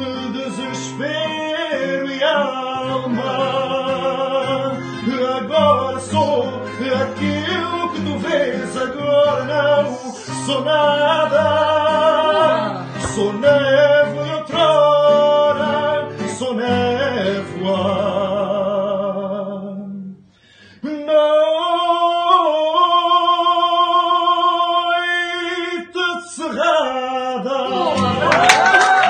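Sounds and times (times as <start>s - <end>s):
man singing with vibrato: 0.0s - 28.8s.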